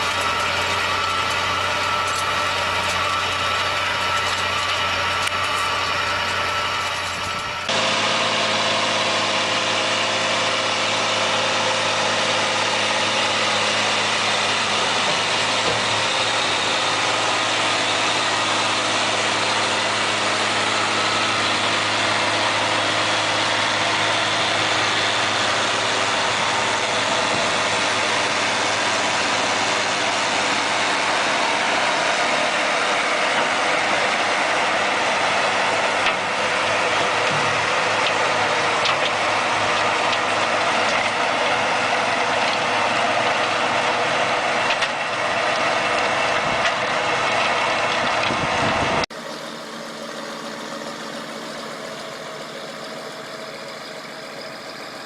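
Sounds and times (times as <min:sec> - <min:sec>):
farm machine engine running: 0:00.0 - 0:55.0.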